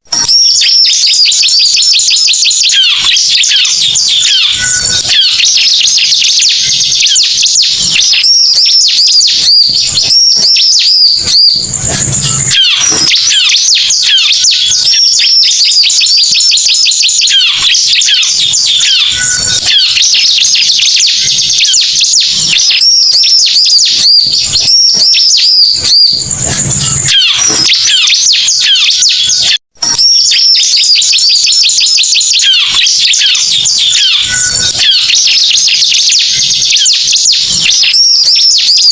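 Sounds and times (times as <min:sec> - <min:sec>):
recorded bird call chirps and trills: 0:00.0 - 0:38.9.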